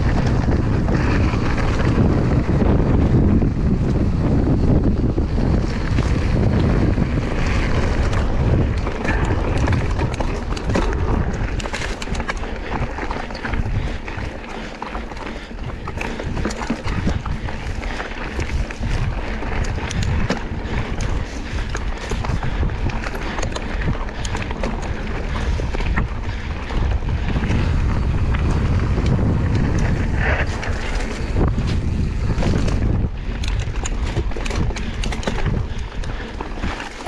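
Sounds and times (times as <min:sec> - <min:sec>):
bike clicks and rattles: 0:00.0 - 0:37.0
tyre rumble: 0:00.0 - 0:37.0
wind buffeting microphone: 0:00.0 - 0:37.0.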